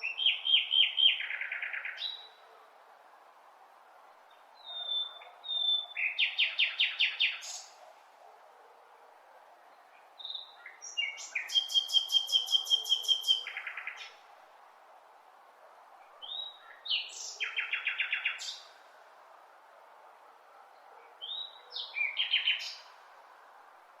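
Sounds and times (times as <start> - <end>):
songbird singing: 0.0 - 14.4, 15.6 - 19.0, 20.1 - 23.6
faint background noise: 0.0 - 24.0.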